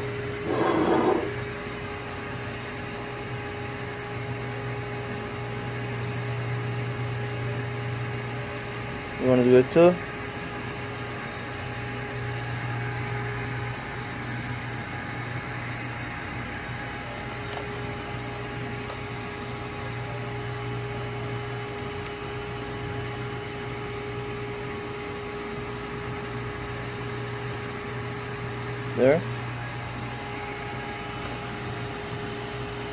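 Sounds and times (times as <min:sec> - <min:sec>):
machine hum with whine: 0:00.0 - 0:32.9.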